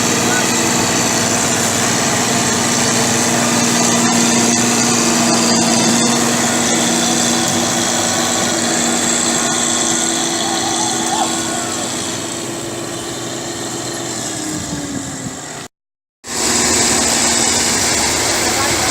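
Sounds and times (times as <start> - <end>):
diesel engine running steadily: 0.0 - 18.9.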